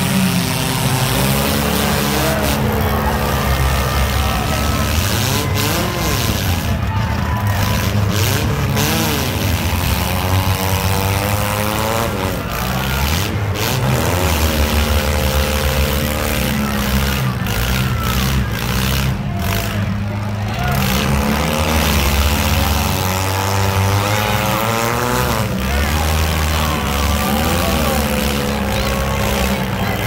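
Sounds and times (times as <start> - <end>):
car engines revving: 0.0 - 30.0
low engine drone: 0.0 - 30.0.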